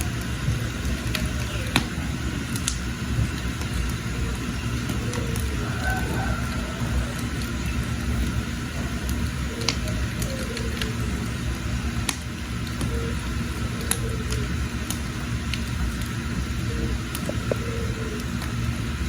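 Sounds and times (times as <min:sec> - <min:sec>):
firewood crackling and popping: 0:00.0 - 0:19.0
wood fire rumbling: 0:00.0 - 0:19.0.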